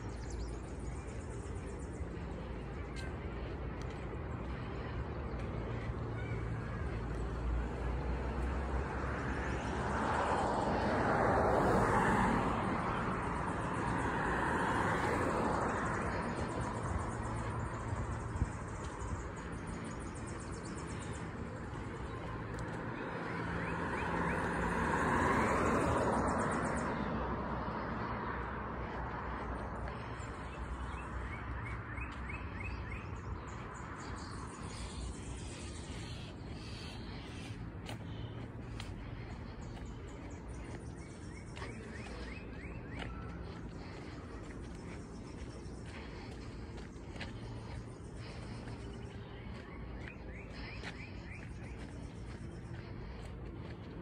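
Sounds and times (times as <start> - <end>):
cars passing: 0.0 - 54.0
low traffic rumble: 0.0 - 54.0.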